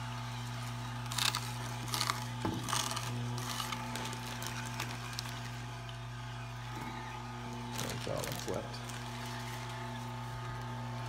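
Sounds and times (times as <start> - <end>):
juicer motor hum: 0.0 - 11.0
celery crackling and snapping: 0.5 - 6.9, 7.5 - 11.0.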